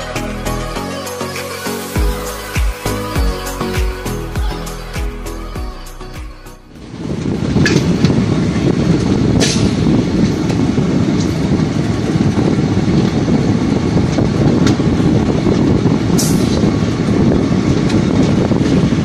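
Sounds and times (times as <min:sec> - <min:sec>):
rushing air: 0:00.0 - 0:19.0.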